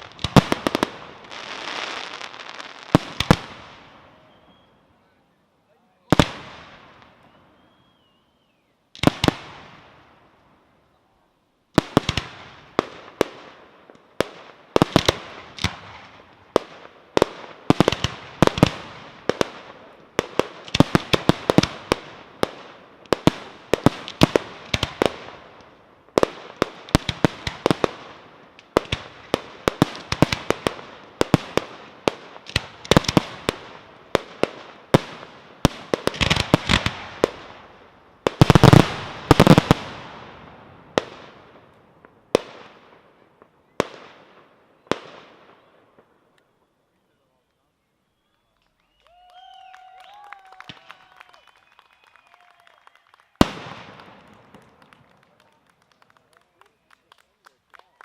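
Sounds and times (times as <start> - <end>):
fireworks bangs: 0.0 - 4.8, 6.0 - 8.0, 8.9 - 10.3, 11.7 - 46.2, 49.6 - 57.0.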